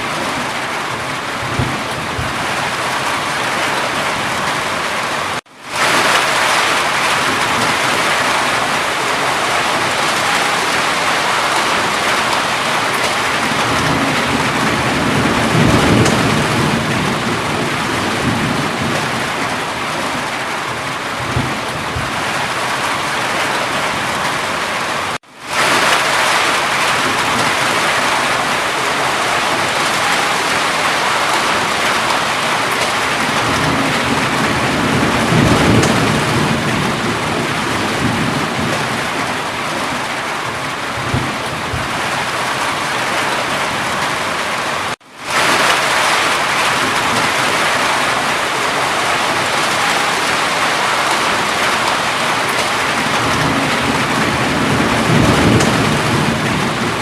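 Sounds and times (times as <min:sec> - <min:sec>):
heavy rain falling: 0:00.0 - 0:57.0
thunder rumbling: 0:00.0 - 0:57.0.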